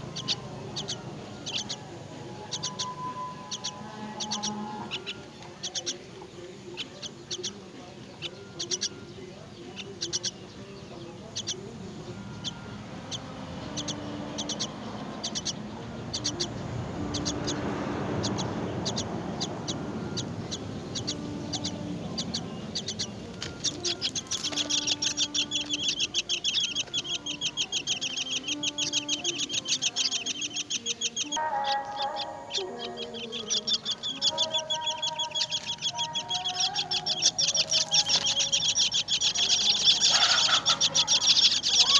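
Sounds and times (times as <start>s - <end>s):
nestling birds chirping: 0.0s - 41.9s.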